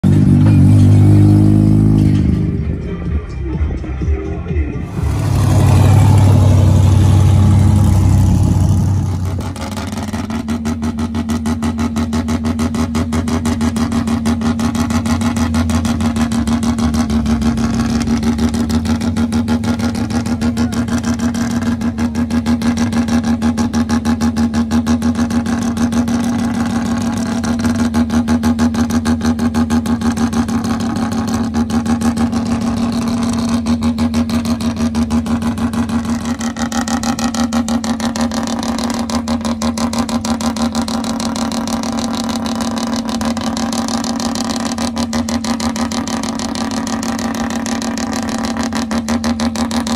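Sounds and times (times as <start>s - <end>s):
car engine idling: 0.0s - 49.9s
car engine running loud: 0.0s - 49.9s.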